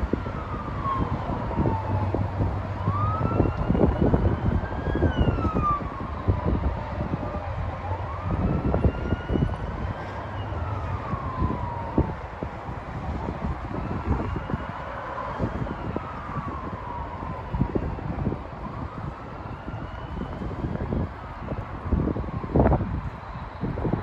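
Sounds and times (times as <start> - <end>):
distant siren wailing: 0.0 - 24.0
wind buffeting microphone: 0.0 - 24.0.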